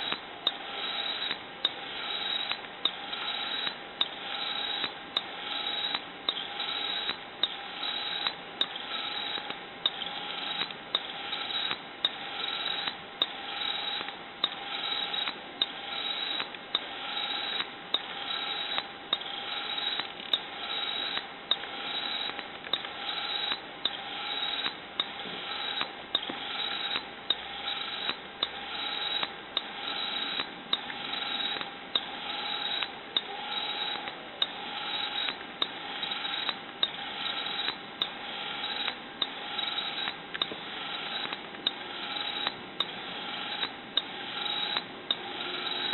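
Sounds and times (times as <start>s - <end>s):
sharp mechanical click: 0.0s - 45.9s
winding mechanism whirring: 0.0s - 45.9s.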